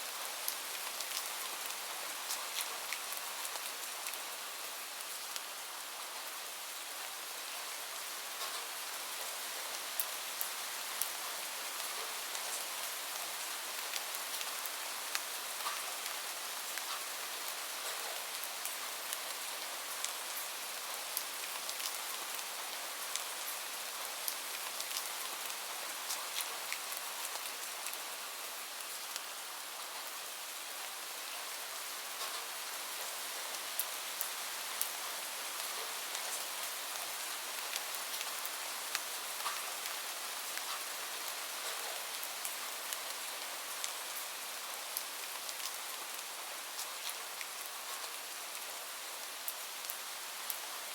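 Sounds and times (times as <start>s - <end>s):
gentle rain hiss: 0.0s - 50.9s.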